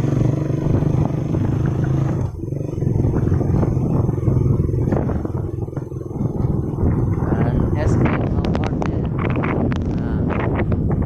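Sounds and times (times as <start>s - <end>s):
low uneven engine rumble: 0.0s - 11.0s.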